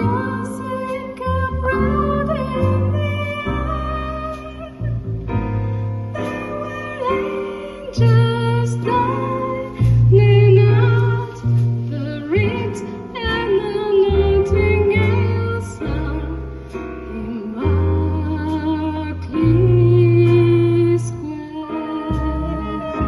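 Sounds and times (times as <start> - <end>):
woman singing with vibrato: 0.0 - 4.9, 6.2 - 16.5, 17.1 - 23.0
jazz band accompaniment: 0.0 - 23.0.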